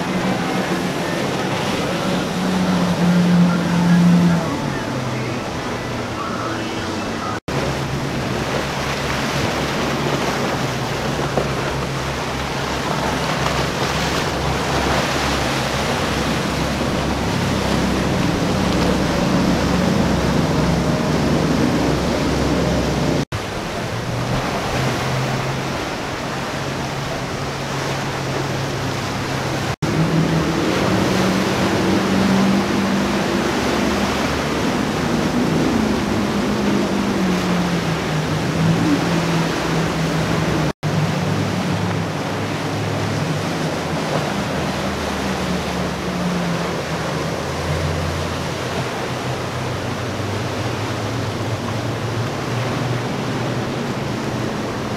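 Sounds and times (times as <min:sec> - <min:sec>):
boat engine drone: 0:00.0 - 0:54.9
rush of spray and wake: 0:00.0 - 0:54.9.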